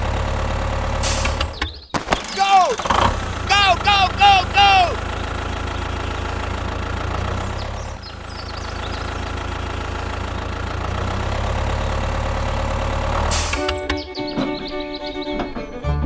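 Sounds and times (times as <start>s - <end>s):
tractor engine idling: 0.0s - 15.6s.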